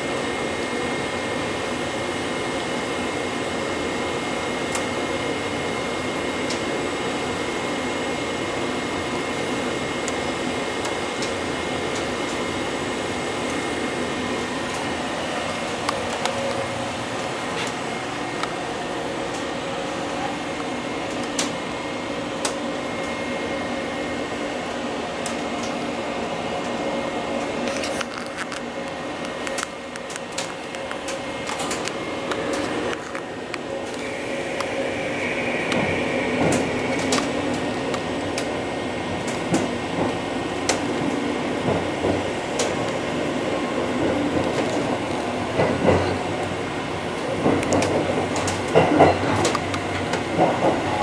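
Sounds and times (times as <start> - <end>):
air conditioning whir and hum: 0.0 - 51.0.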